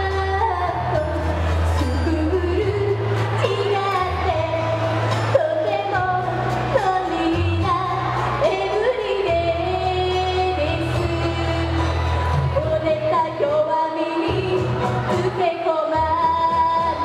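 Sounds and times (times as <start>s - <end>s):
backing music with bass line: 0.0s - 17.0s
woman singing into microphone: 0.0s - 17.0s.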